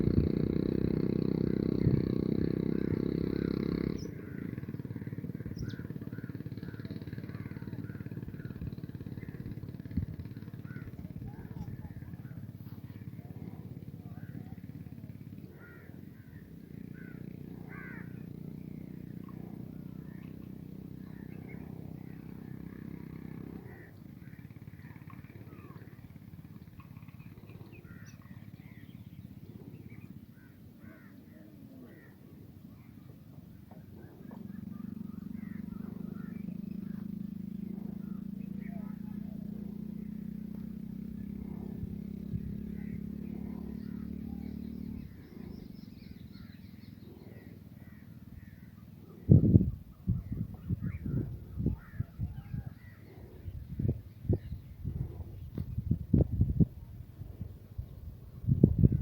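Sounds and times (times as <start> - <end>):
low steady rumble: 0.0 - 59.0
small birds chirping: 0.0 - 59.0.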